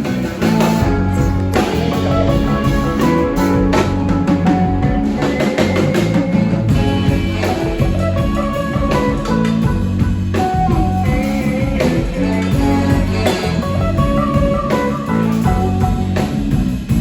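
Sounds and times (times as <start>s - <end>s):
blues-rock guitar: 0.0s - 17.0s
steady drum beat: 0.0s - 17.0s.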